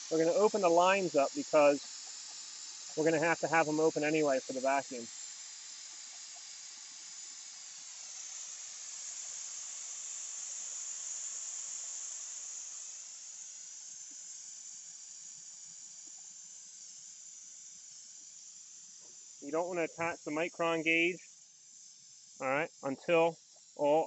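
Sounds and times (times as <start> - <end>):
gas venting hiss: 0.0 - 24.0.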